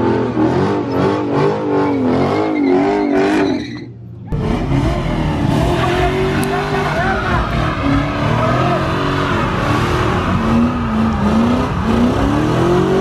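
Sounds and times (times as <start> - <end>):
car engine revving: 0.0 - 3.6, 4.3 - 13.0.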